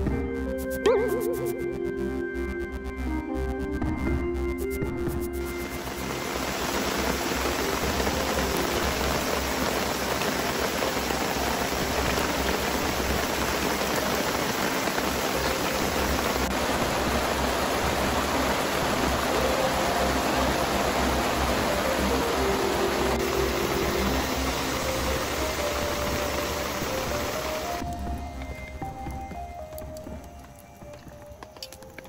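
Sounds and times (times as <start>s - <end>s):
heavy rain pouring: 5.2s - 32.0s.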